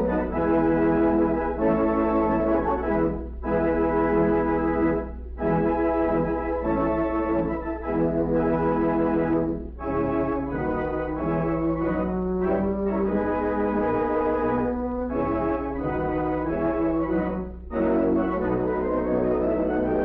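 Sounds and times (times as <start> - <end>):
steady low hum: 0.0 - 19.9
organ chords: 0.0 - 20.0.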